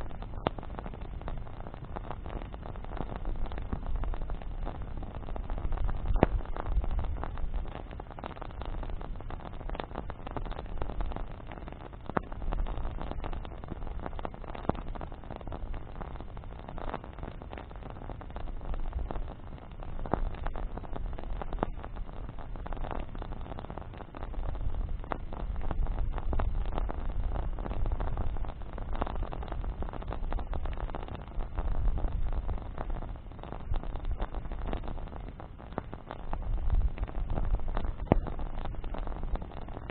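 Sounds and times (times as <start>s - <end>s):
bonfire crackling and popping: 0.0s - 39.9s
low rumble of fire: 0.0s - 39.9s.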